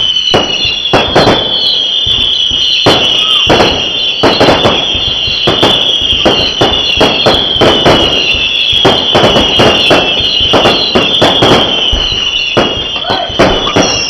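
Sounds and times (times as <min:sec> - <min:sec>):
firework bangs: 0:00.0 - 0:14.0
high-pitched firework whistle: 0:00.0 - 0:14.0.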